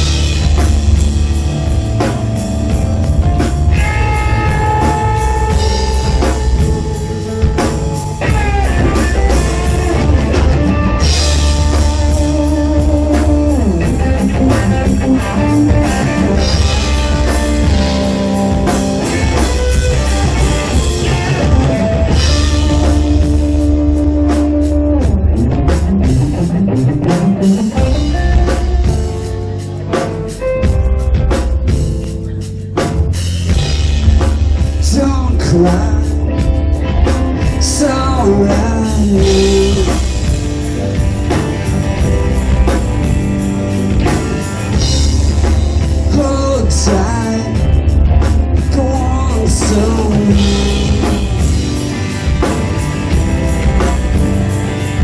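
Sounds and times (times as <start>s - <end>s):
bass: 0.0s - 55.0s
drum kit with cymbals: 0.0s - 55.0s
electric guitar sliding notes: 0.0s - 55.0s.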